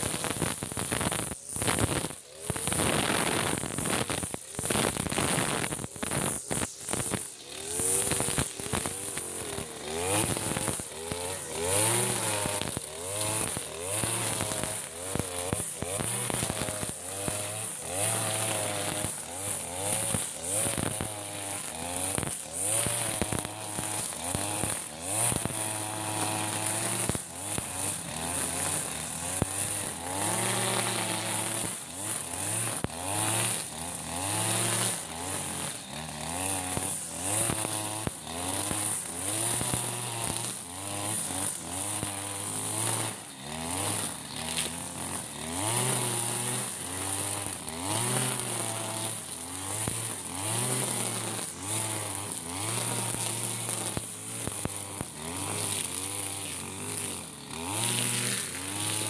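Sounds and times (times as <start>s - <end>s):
brush cutter engine revving: 0.0s - 59.0s
cutting head cutting grass: 0.0s - 59.0s.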